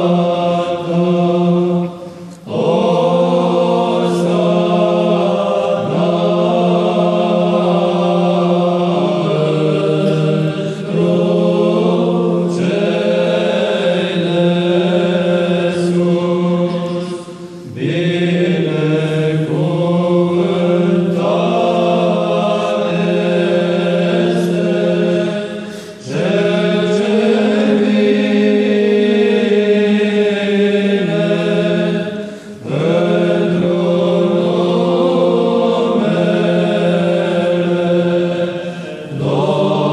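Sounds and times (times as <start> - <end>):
low sung drone: 0.0 - 39.9
male choir chanting: 0.0 - 39.9.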